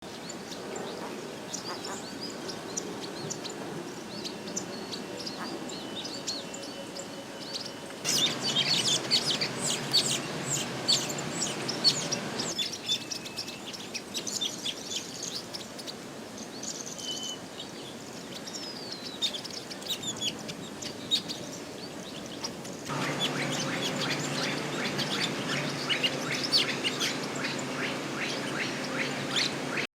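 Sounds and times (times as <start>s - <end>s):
birds chirping and chattering: 0.1s - 29.9s.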